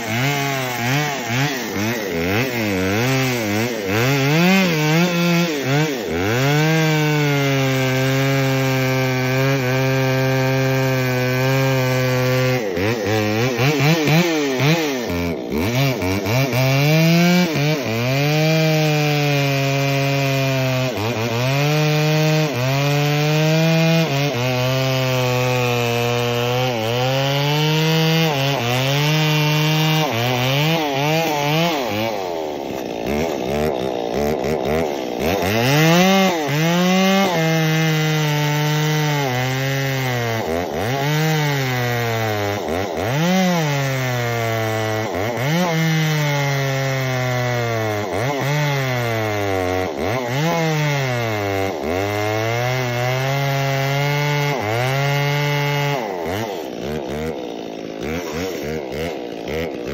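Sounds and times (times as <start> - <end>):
chainsaw cutting into stump: 0.0 - 59.9.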